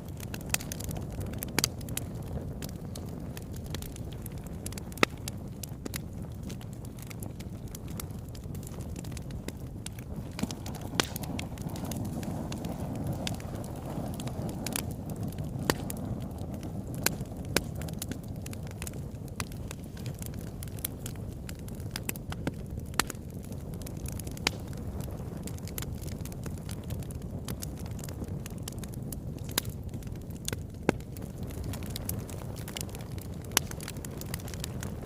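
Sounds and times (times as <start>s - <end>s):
fireplace flame rushing: 0.0s - 35.0s
wood fire crackling and popping: 0.0s - 35.0s.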